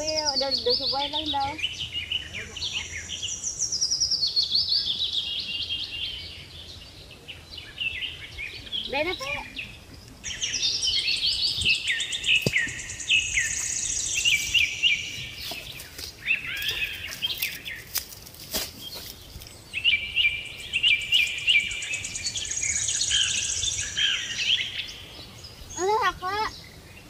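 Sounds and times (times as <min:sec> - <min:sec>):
songbird chirping and trilling: 0:00.0 - 0:27.0.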